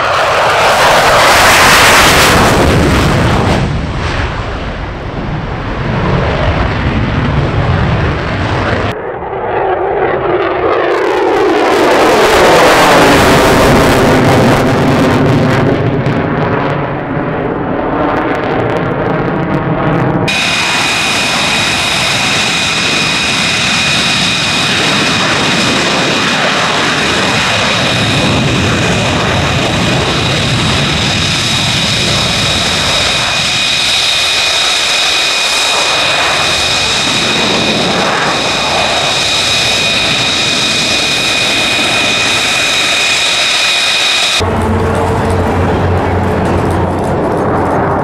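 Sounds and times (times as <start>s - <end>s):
jet engines on takeoff: 0.0s - 48.0s.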